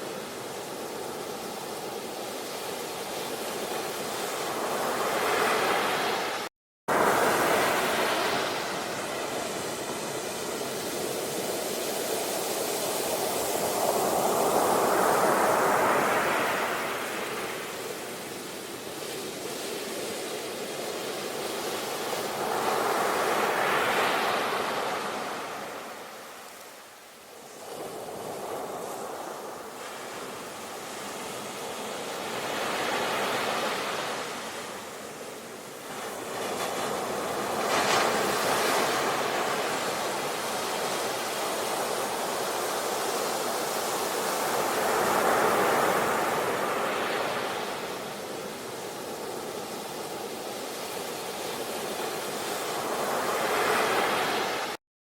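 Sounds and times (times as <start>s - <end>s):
ocean waves breaking on shore: 0.0s - 54.8s.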